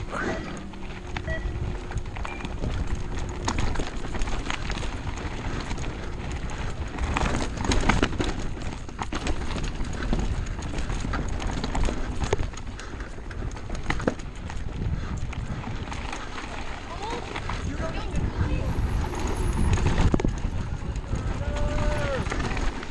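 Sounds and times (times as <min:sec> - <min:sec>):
wind rumble on microphone: 0:00.0 - 0:22.9
bike clattering over rocks: 0:01.8 - 0:22.9.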